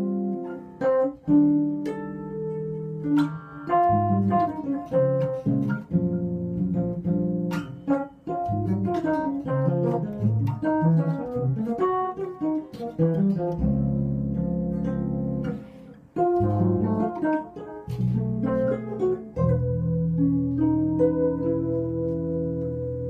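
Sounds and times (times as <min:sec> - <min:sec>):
electric bass playing: 0:00.0 - 0:23.0.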